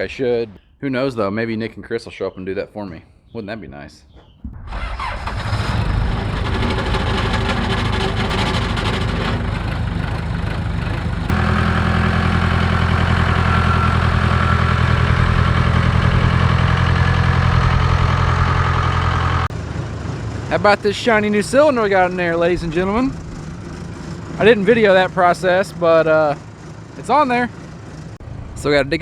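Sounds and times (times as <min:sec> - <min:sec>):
diesel engine running: 0:04.6 - 0:29.0.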